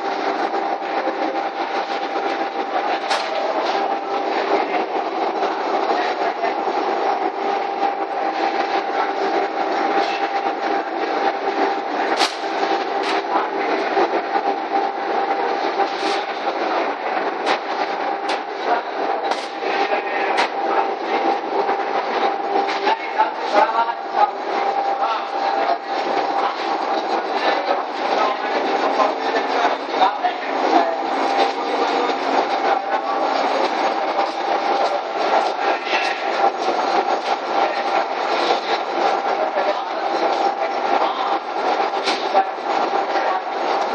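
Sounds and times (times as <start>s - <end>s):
conveyor machine whirring: 0.0s - 43.9s.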